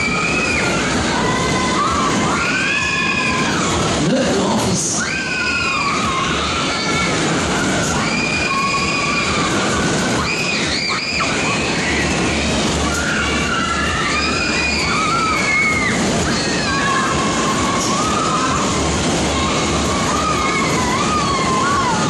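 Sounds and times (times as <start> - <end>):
high squeals and shrieks: 0.0 - 4.0, 4.8 - 22.0
fairground ride cars rumbling: 0.0 - 22.0.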